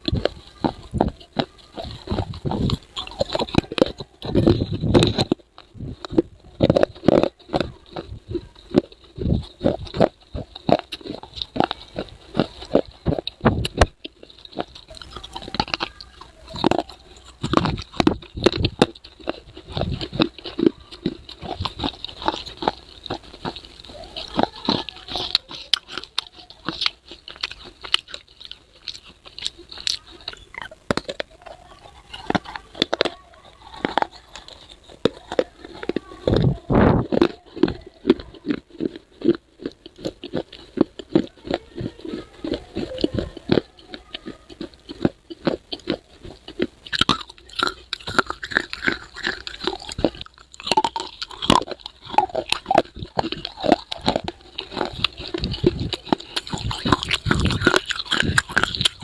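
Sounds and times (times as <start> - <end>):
person crunching and chewing: 0.0 - 59.0.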